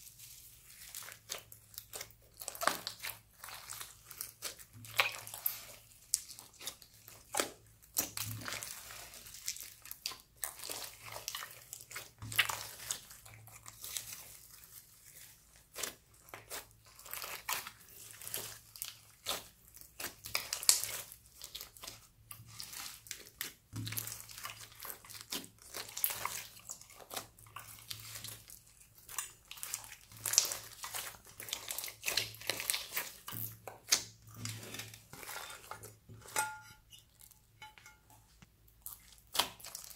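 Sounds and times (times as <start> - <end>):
slime wet pops and crackles: 0.8 - 14.4, 15.6 - 34.2, 38.7 - 39.9.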